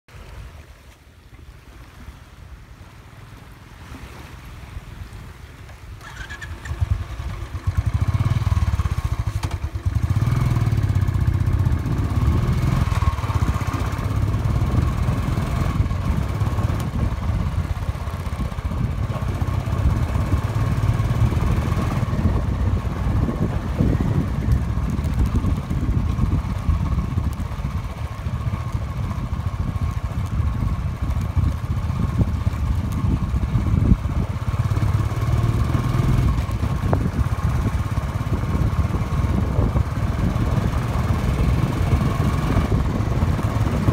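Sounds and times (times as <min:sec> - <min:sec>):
motorcycle engine running: 0:06.0 - 0:43.9.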